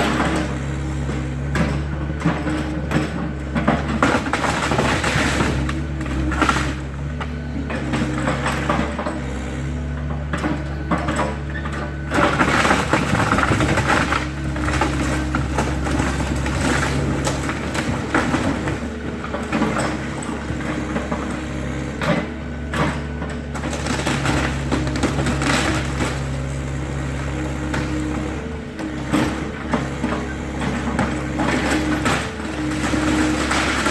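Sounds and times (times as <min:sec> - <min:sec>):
dry wood crunching and cracking: 0:00.0 - 0:09.0, 0:11.8 - 0:33.9
excavator engine running: 0:00.0 - 0:33.9.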